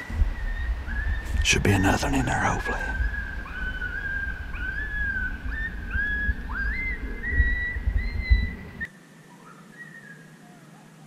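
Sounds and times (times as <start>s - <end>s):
coyotes howling: 0.0s - 11.0s.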